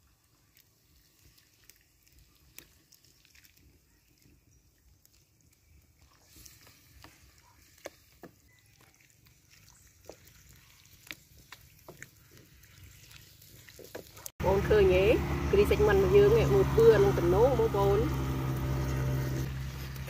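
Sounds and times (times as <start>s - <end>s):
chicken sizzling in a pan: 0.0s - 14.4s, 15.6s - 20.0s.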